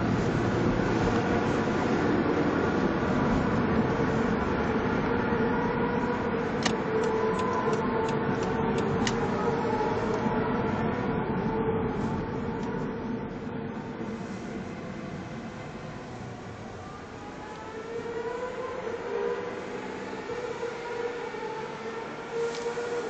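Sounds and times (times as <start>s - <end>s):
loud vehicle rumble: 0.0s - 23.0s.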